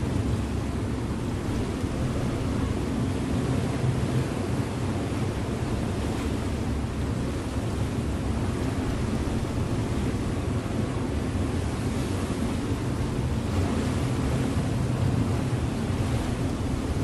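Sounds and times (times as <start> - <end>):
rushing water: 0.0 - 17.0
ship engine drone: 0.0 - 17.0.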